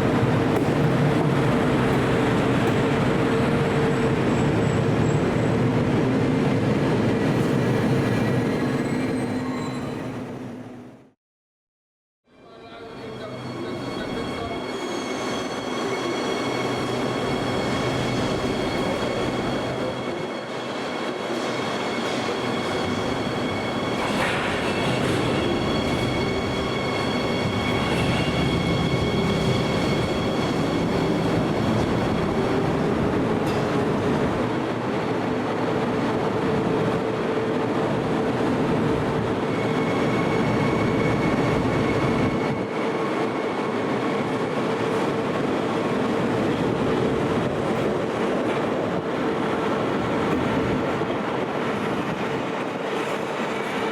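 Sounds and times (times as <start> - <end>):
train hum: 0.0 - 8.5, 12.9 - 53.9
train rolling noise: 0.0 - 10.6, 13.2 - 53.9.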